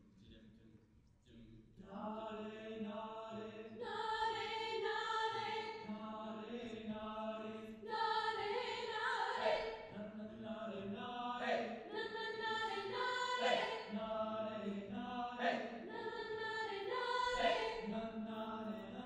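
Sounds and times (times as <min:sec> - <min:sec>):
young choir singing a cappella: 0:01.8 - 0:19.0.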